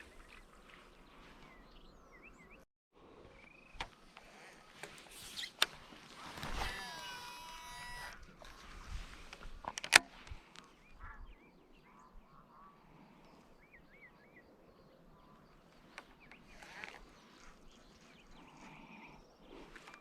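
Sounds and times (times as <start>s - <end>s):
faint bird calls: 3.2s - 20.0s.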